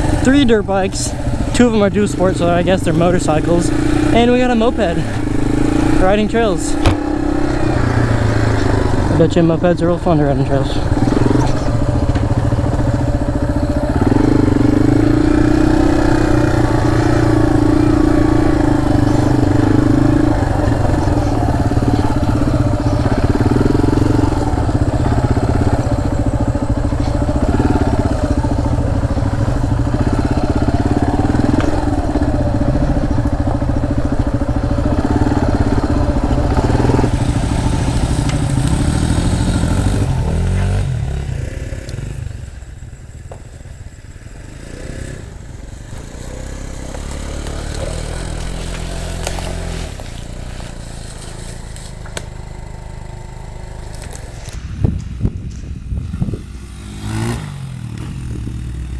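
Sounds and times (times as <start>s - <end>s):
dirt bike engine running: 0.0s - 58.9s.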